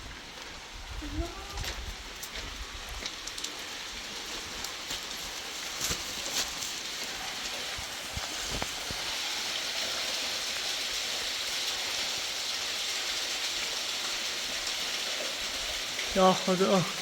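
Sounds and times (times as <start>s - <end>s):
rushing water hiss: 0.0s - 17.0s.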